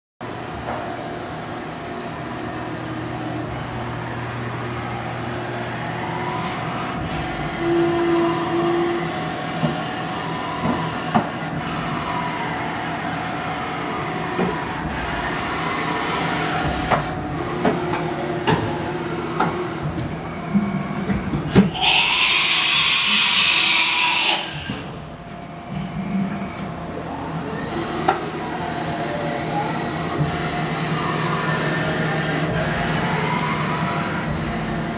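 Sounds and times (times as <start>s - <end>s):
machine mechanical hum: 0.2s - 34.9s
machine whine rising and falling: 0.2s - 34.9s.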